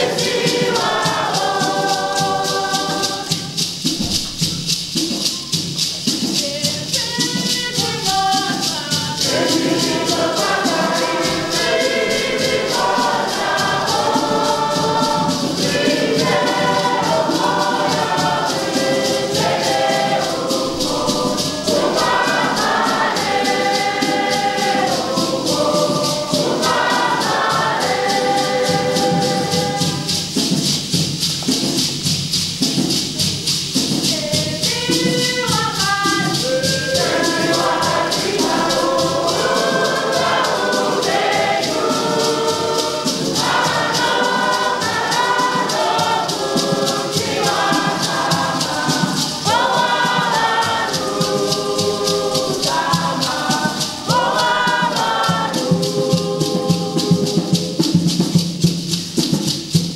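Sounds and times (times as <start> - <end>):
congregation singing a hymn: 0.0 - 59.9
hand rattles shaken: 0.0 - 59.9.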